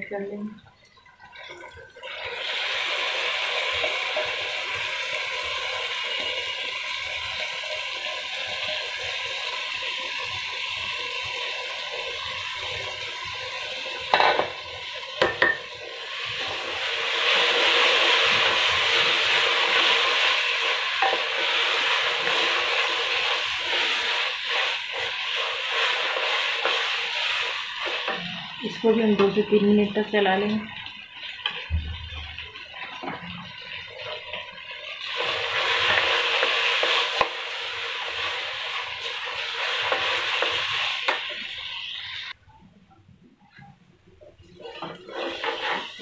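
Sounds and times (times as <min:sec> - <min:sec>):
rice sizzling in hot oil: 0:02.0 - 0:42.4, 0:44.5 - 0:46.0.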